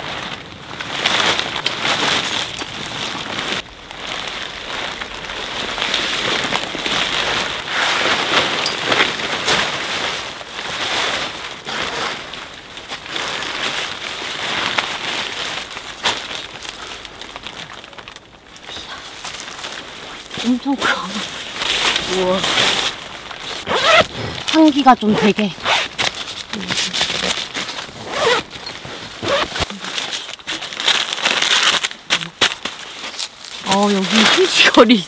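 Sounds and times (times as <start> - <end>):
tent fabric rustling and crinkling: 0.0 - 35.0.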